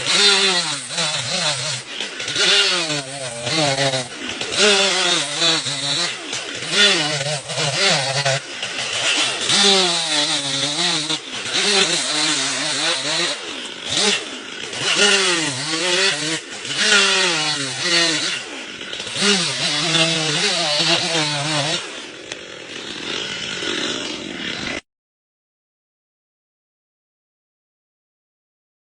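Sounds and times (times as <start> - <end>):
power tool cutting wood: 0.0 - 24.8.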